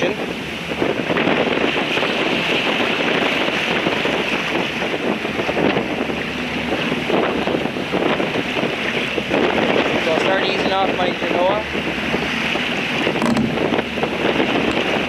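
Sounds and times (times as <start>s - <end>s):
bow wave rushing along hull: 0.0s - 15.0s
wind buffeting microphone: 0.0s - 15.0s.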